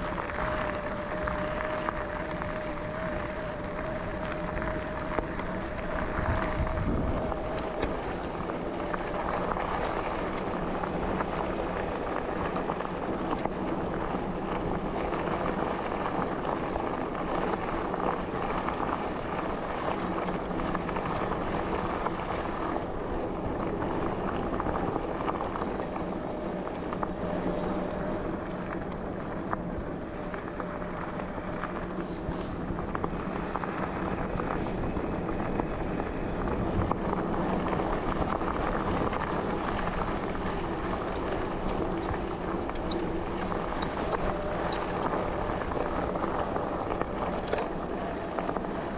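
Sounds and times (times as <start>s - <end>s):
bicycle tyres rolling on trail: 0.0s - 48.9s
wind noise on microphone: 0.0s - 48.9s.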